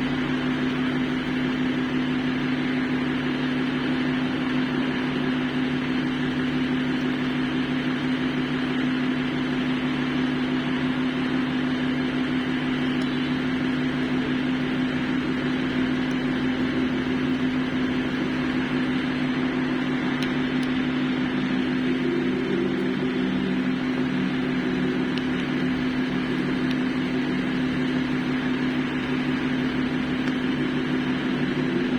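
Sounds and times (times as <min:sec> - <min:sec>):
mechanical hum: 0:00.0 - 0:31.9.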